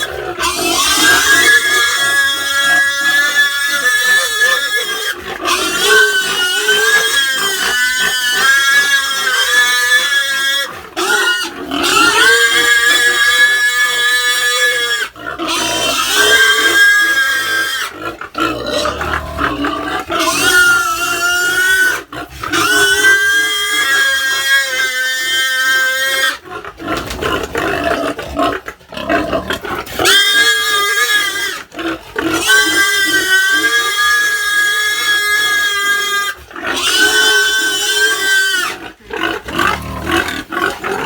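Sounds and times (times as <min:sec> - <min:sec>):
pig squealing: 0:00.0 - 0:41.0.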